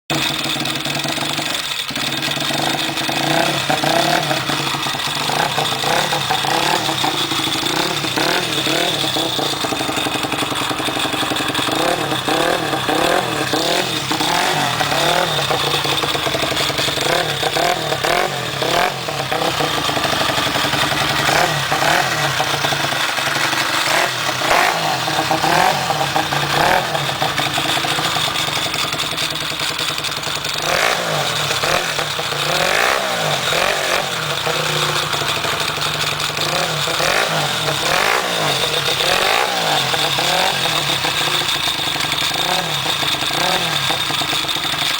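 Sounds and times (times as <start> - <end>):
small engine idling and revving: 0.0 - 44.9.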